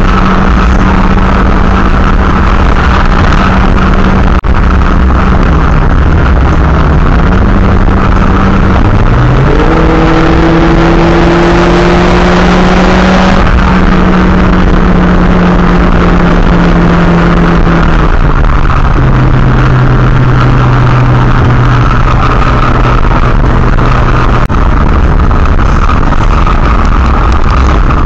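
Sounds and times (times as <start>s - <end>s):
car engine at highway speed: 0.0s - 28.0s
road noise: 0.0s - 28.0s.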